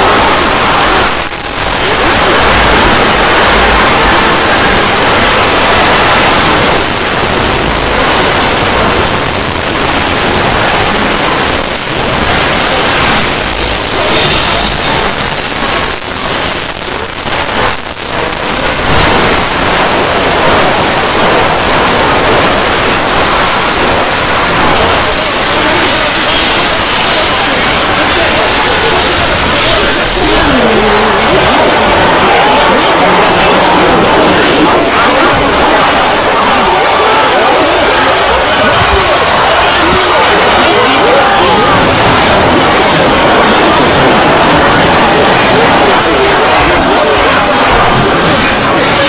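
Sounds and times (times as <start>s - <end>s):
loud harsh static noise: 0.0s - 49.0s.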